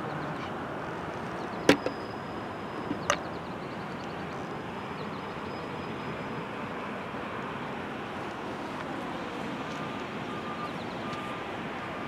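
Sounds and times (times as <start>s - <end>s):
distant road traffic: 0.0s - 12.0s
wind: 0.0s - 12.0s.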